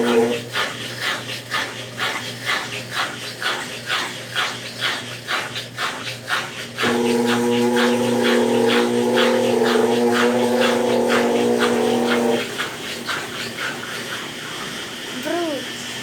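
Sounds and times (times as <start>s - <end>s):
washing machine motor humming: 0.0s - 3.9s, 5.4s - 16.0s
water swishing in washing machine: 0.0s - 16.0s.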